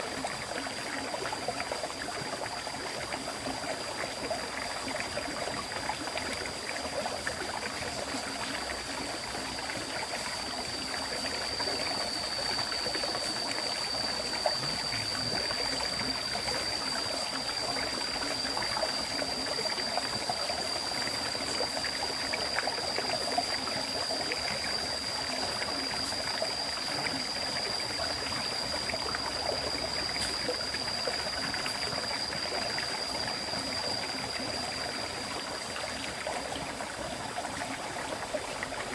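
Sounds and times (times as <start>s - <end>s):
river stream flowing: 0.0s - 38.9s
thin high-pitched whine: 0.0s - 38.9s.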